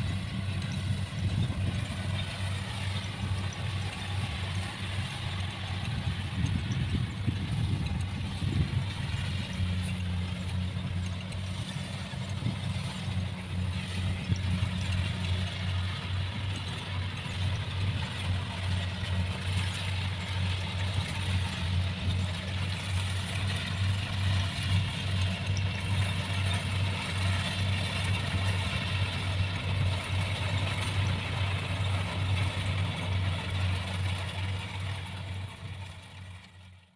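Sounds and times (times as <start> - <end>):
diesel engine humming: 0.0 - 36.9.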